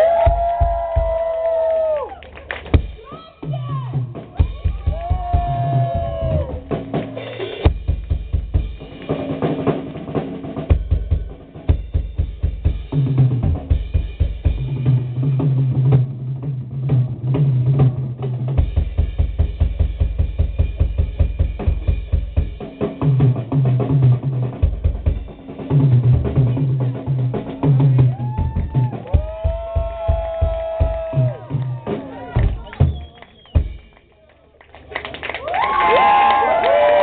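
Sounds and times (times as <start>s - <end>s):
drum kit beat: 0.0s - 1.5s, 2.7s - 34.1s
rock band playing live: 2.7s - 33.0s.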